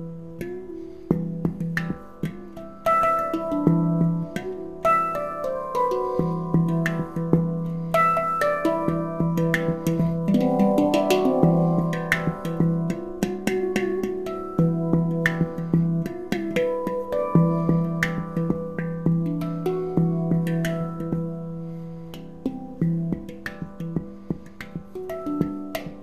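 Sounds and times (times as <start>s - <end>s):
handpan ringing notes: 0.0s - 26.0s
low handpan note: 0.0s - 26.0s.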